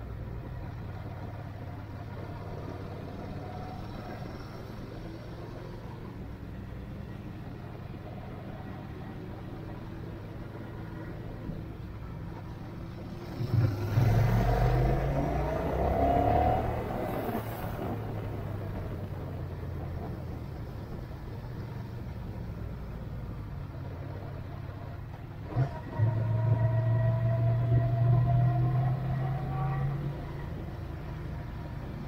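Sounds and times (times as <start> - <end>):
vehicle engine accelerating: 0.0 - 32.0.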